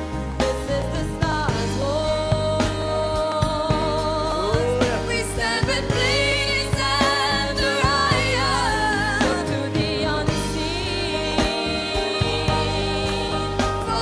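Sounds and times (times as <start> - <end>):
backing band with drum beat: 0.0 - 14.0
woman singing with vibrato: 0.6 - 4.5, 5.1 - 14.0.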